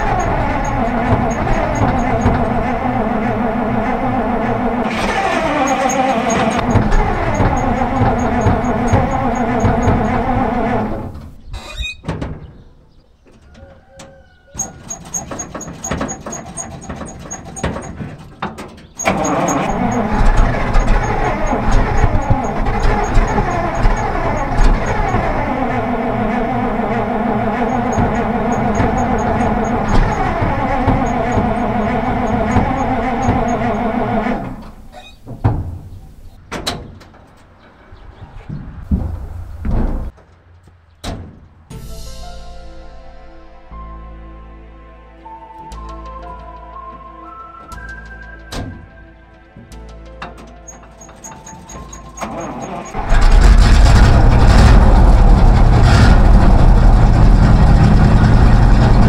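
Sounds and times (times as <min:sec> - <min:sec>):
truck engine running: 0:00.0 - 0:11.5, 0:14.6 - 0:41.6, 0:49.8 - 0:59.0
short squeaks and clicks: 0:00.0 - 0:40.4, 0:50.0 - 0:59.0.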